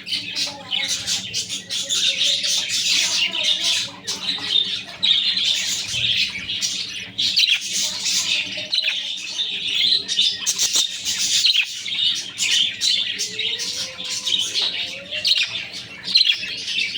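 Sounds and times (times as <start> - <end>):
budgerigars chirping and chattering: 0.0 - 16.9.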